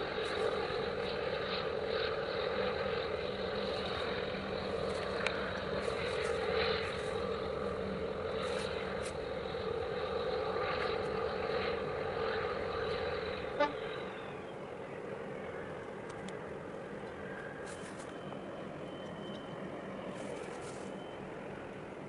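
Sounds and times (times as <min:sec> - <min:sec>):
engine hum with high whine: 0:00.0 - 0:22.0.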